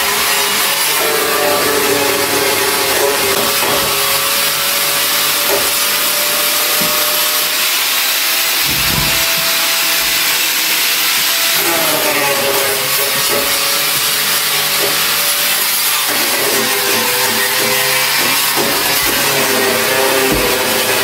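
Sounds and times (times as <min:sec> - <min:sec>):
angle grinder grinding metal: 0:00.0 - 0:21.0.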